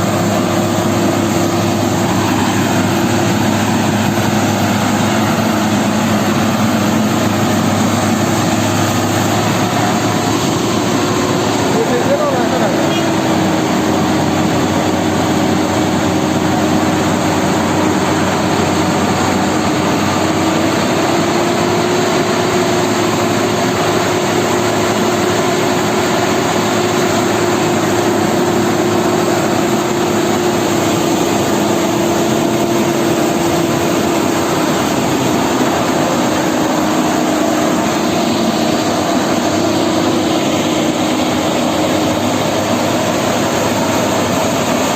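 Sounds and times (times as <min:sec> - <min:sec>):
heavy vehicle engines droning: 0:00.0 - 0:44.9.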